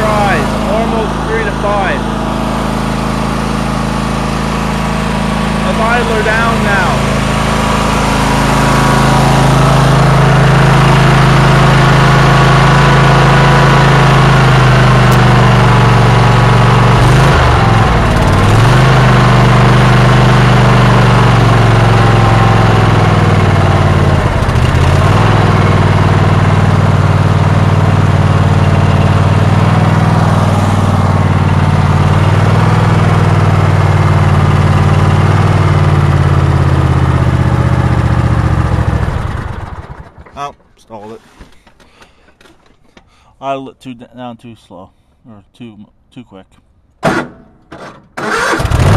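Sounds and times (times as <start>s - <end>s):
lawn tractor engine running: 0.0s - 43.2s, 48.2s - 48.9s.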